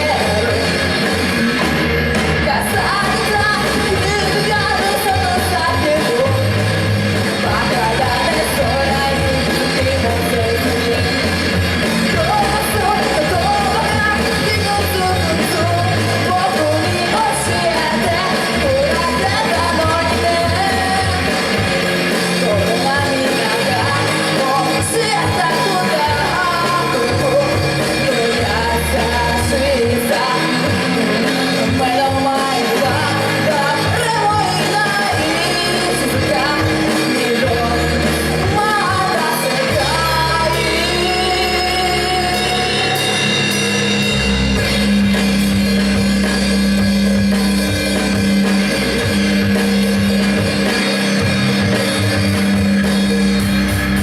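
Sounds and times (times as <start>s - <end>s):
lead vocal singing: 0.0s - 44.4s
rock song: 0.0s - 54.0s.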